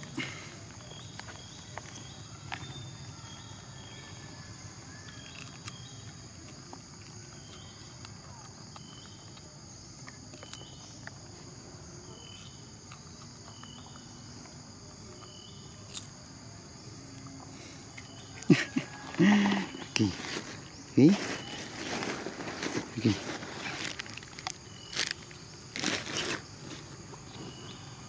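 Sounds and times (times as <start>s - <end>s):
insect chorus buzzing: 0.0s - 28.0s.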